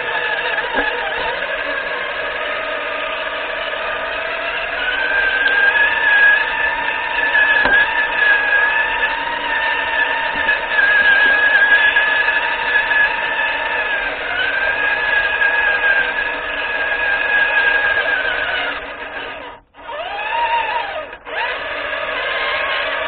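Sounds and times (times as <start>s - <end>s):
toy truck motor whining: 0.0s - 23.0s.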